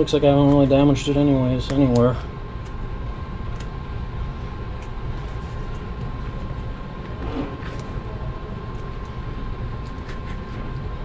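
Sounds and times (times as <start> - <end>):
low rumble with hum: 0.0 - 11.0.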